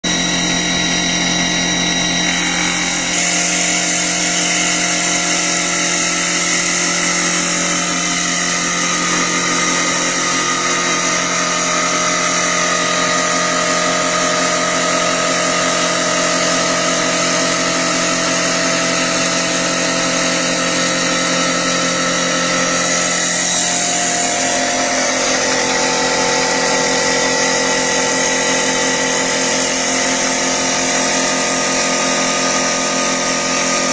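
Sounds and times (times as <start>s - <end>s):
wood lathe spinning and cutting: 0.0s - 33.9s.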